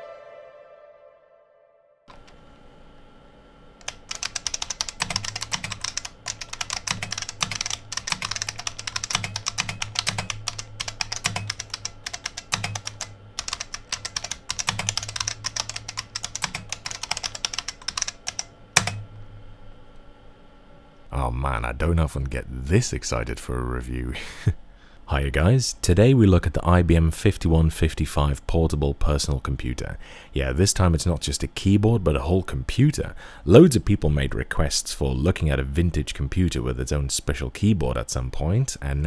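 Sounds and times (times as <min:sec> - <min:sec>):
steady hum: 0:02.1 - 0:39.0.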